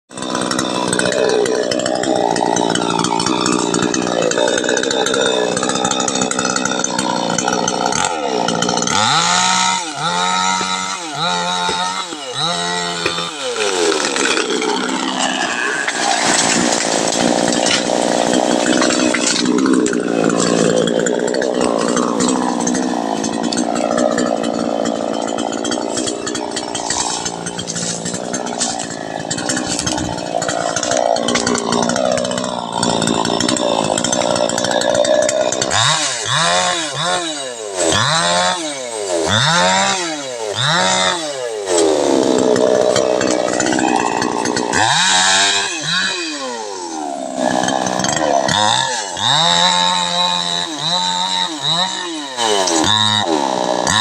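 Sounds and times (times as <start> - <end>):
chainsaw revving: 0.1 - 54.0.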